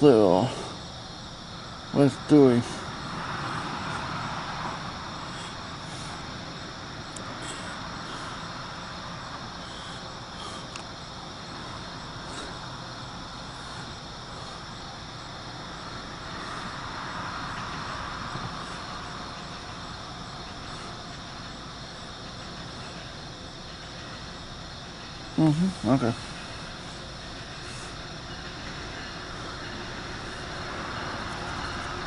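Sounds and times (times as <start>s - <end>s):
distant diesel locomotive engines: 0.0s - 32.0s
insects chirring: 0.0s - 32.0s.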